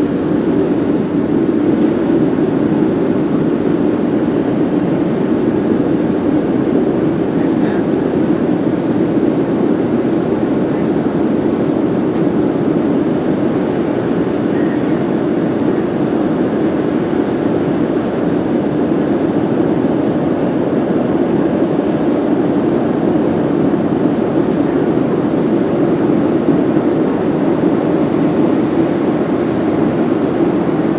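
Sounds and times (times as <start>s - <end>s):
jet engine cabin rumble: 0.0s - 30.9s.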